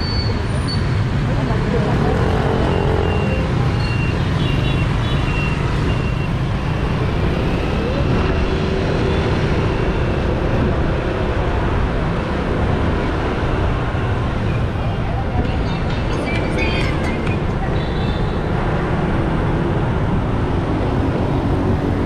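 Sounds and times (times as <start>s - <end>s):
motorbike traffic: 0.0s - 22.0s.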